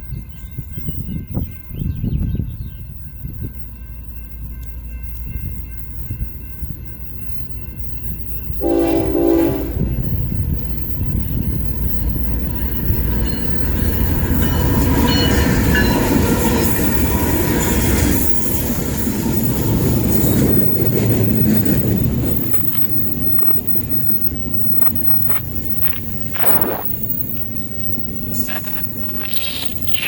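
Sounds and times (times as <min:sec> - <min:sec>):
train wheel squeals: 0:00.0 - 0:30.0
train wheels rumbling on rails: 0:00.0 - 0:30.0.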